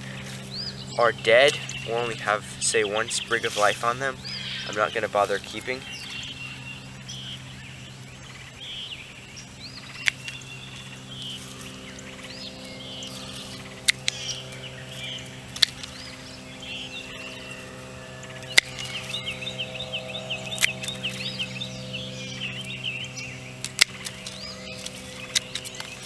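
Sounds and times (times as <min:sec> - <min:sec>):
pruning shears clicking: 0:00.0 - 0:06.5, 0:09.8 - 0:26.0
birds chirping: 0:00.0 - 0:26.0
steady low hum: 0:00.0 - 0:26.0.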